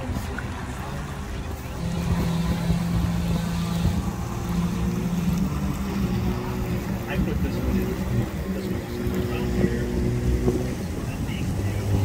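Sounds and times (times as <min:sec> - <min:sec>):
engine idling hum: 0:00.0 - 0:12.0.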